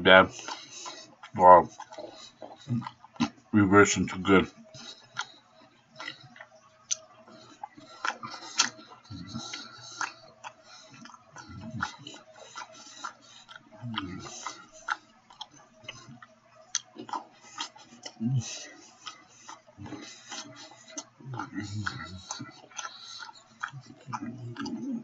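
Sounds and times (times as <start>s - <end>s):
wet chewing mouth clicks: 0.3s - 3.5s, 4.2s - 25.0s.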